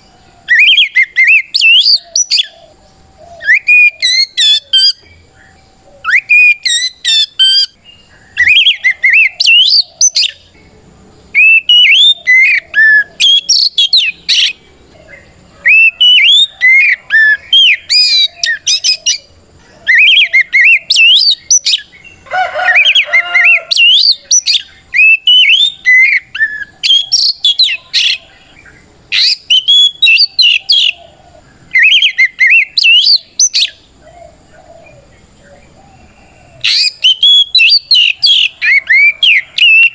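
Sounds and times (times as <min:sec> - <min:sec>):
bird singing whistled phrases: 0:00.0 - 0:02.6, 0:03.2 - 0:10.4, 0:11.3 - 0:14.6, 0:15.6 - 0:28.5, 0:29.1 - 0:31.0, 0:31.7 - 0:33.8, 0:36.6 - 0:39.9.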